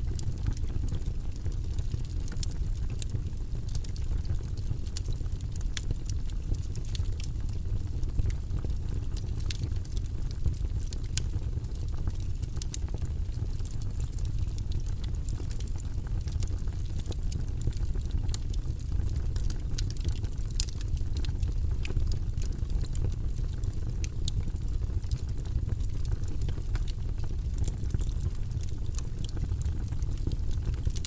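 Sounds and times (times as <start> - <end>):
low fire rumble: 0.0 - 31.0
wood fire crackling: 0.0 - 31.0.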